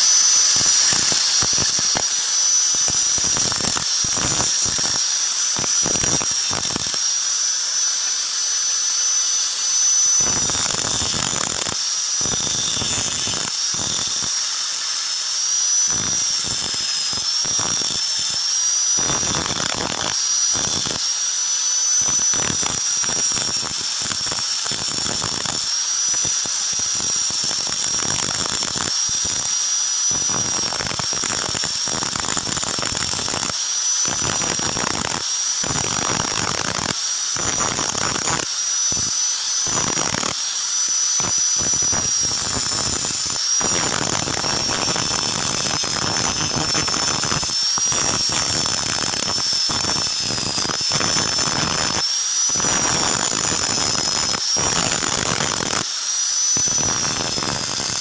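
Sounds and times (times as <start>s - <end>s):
angle grinder whining: 0.0s - 58.0s.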